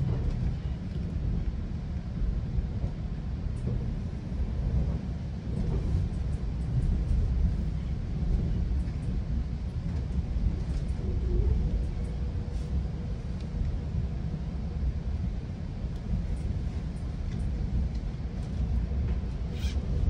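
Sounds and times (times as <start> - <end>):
train rumbling from inside coach: 0.0 - 20.0.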